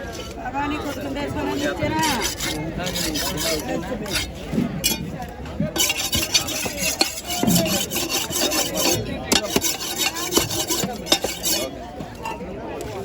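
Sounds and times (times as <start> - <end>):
blade scraping: 0.0 - 13.0.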